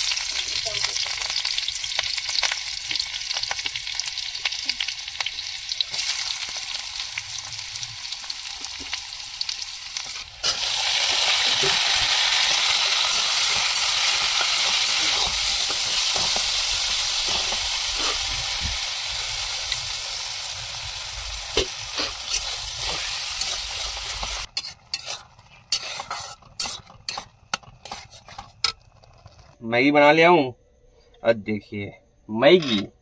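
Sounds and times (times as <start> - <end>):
food sizzling in a pan: 0.0 - 29.3.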